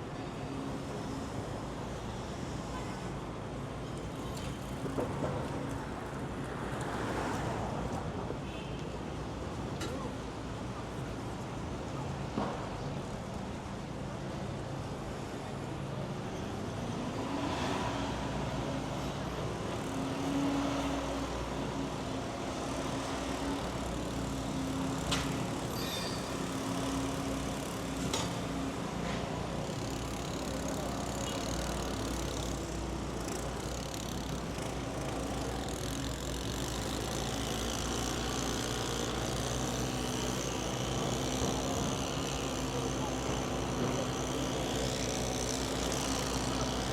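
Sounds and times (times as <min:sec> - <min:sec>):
road noise: 0:00.0 - 0:46.9.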